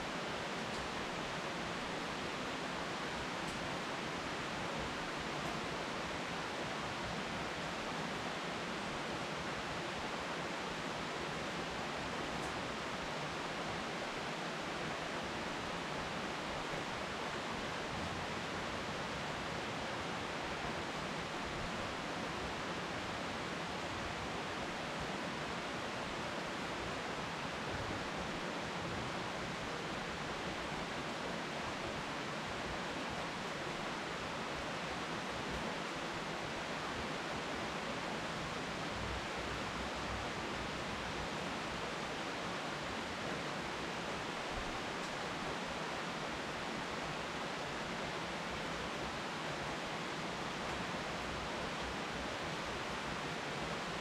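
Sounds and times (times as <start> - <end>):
rain falling on leafy trees: 0.0 - 54.0.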